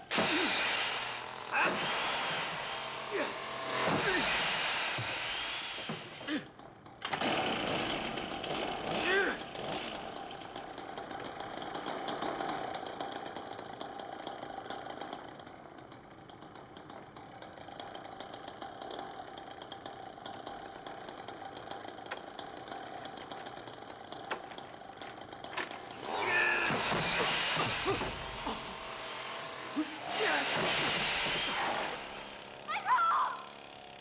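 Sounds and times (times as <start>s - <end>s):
chainsaw engine running: 0.0s - 34.0s.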